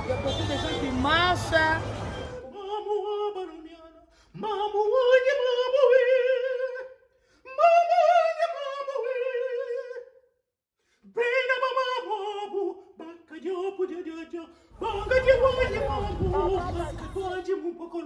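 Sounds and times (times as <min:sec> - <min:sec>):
man singing operatically: 0:02.4 - 0:10.2, 0:11.0 - 0:18.0.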